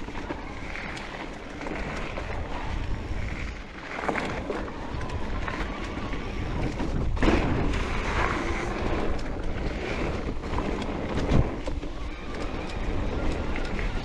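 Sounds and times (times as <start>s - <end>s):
bike rattling and knocking: 0.0s - 14.0s
tyres rumbling on dirt: 0.0s - 14.0s
wind buffeting microphone: 0.0s - 14.0s.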